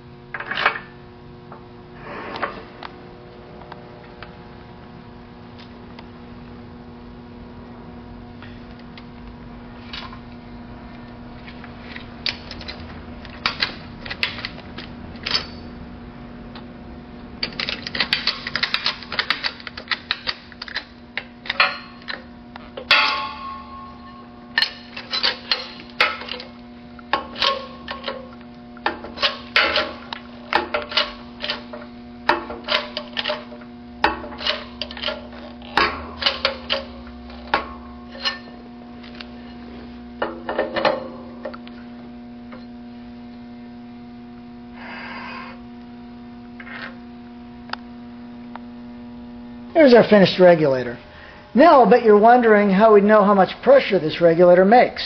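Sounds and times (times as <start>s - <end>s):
low hum: 0.0s - 17.8s, 20.6s - 51.6s.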